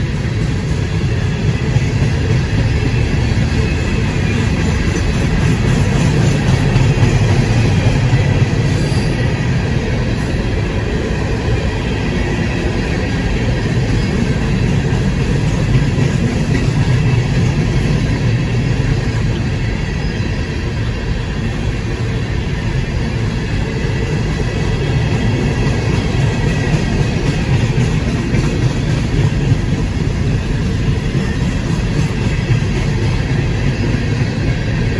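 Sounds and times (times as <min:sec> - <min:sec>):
freight train rolling on rails: 0:00.0 - 0:34.9.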